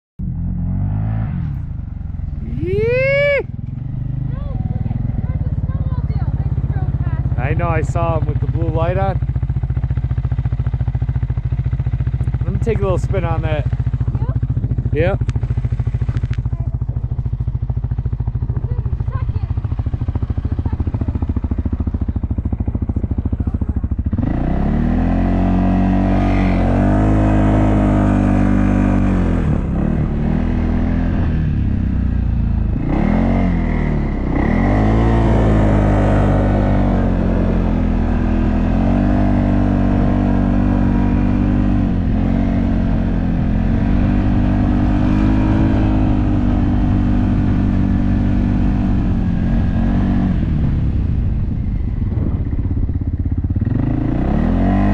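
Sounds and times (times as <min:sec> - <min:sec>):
off-road vehicle engine revving: 0:00.2 - 0:54.9.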